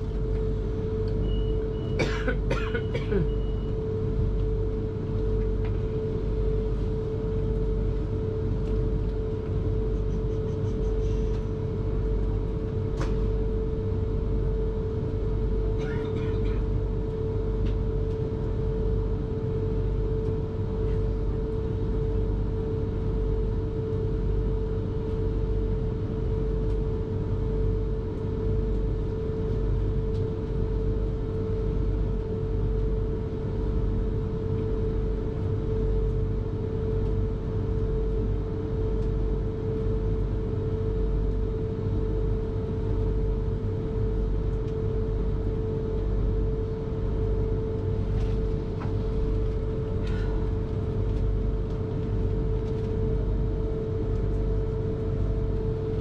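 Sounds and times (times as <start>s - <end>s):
constant whining tone: 0.0s - 56.0s.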